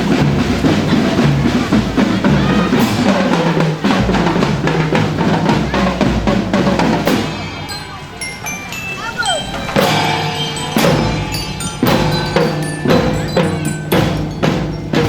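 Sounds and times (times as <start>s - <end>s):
snare and bass drums beating: 0.0s - 7.7s, 9.5s - 15.0s.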